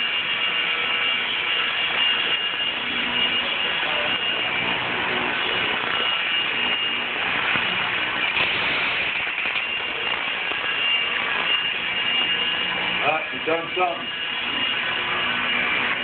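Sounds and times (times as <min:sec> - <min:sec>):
model helicopter hovering: 0:00.0 - 0:16.0.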